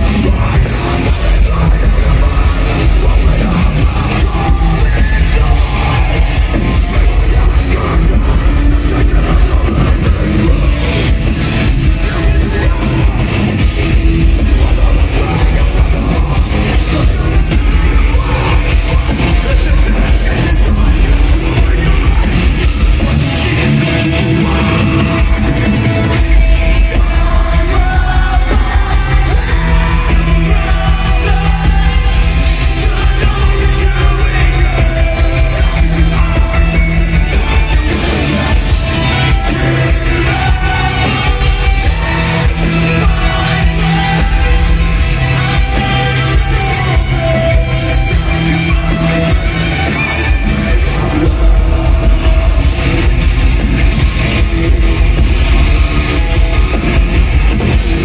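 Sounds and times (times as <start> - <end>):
live metal band playing: 0.0 - 58.0
vocals: 0.0 - 58.0.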